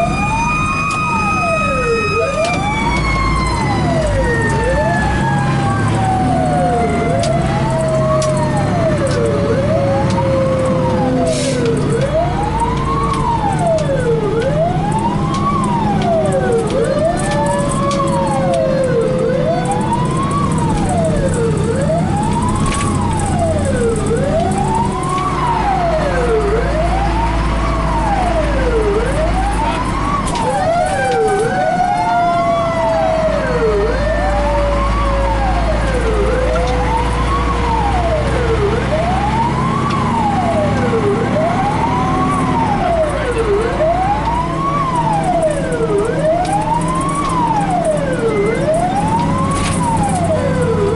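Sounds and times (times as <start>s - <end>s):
fire engine siren wailing: 0.0s - 50.9s
slower falling siren tones: 0.0s - 50.9s
truck engine rumble: 0.0s - 50.9s.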